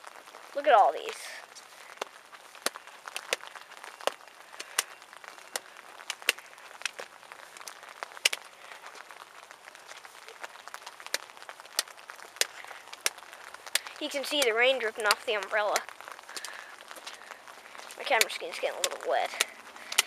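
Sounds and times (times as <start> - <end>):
drips ticking on umbrella: 0.0 - 20.0
faint rain hiss: 0.0 - 20.0.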